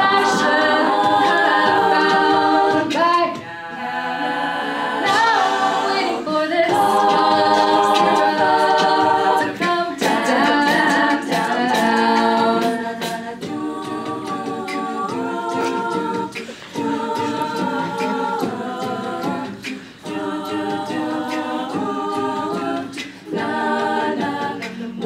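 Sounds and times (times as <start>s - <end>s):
female a cappella singing: 0.0s - 25.0s.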